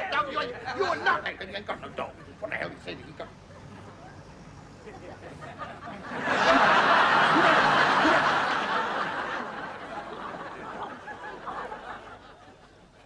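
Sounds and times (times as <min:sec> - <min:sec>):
studio audience laughing: 0:01.9 - 0:13.0.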